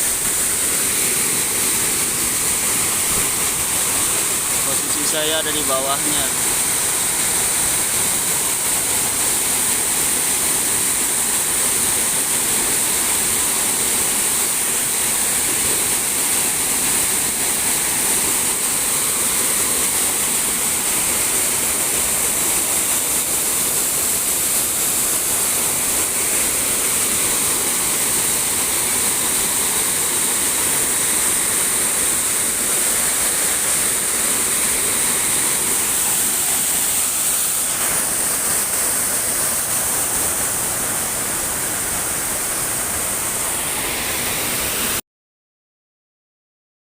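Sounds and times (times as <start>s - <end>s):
waterfall crashing: 0.0s - 45.0s.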